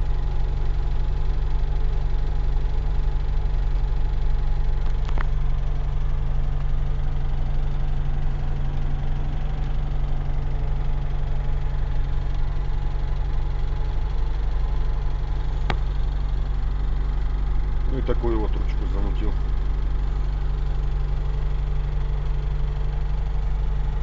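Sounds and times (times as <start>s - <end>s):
car engine running: 0.0s - 24.0s
engine knocking: 0.0s - 24.0s.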